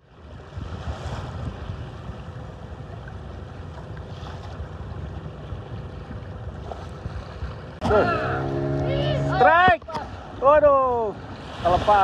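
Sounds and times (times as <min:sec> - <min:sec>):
wind rumbling on microphone: 0:00.0 - 0:10.4
choppy sea waves: 0:00.0 - 0:12.0.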